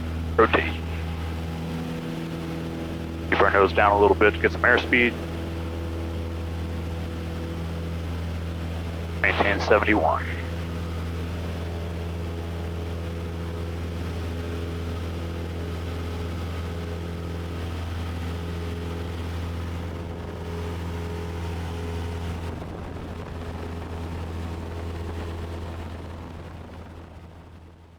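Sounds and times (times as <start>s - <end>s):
airplane engine droning: 0.0s - 27.9s.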